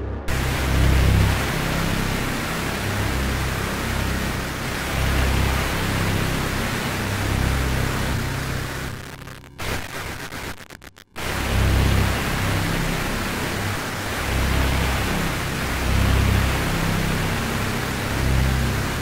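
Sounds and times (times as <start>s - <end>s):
dense noisy hiss: 0.2s - 19.0s.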